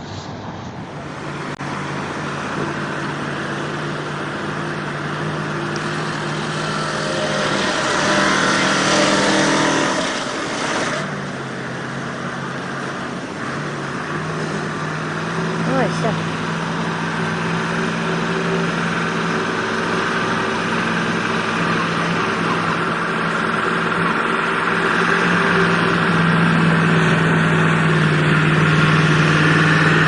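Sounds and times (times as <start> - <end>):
truck engine revving: 0.8 - 30.0.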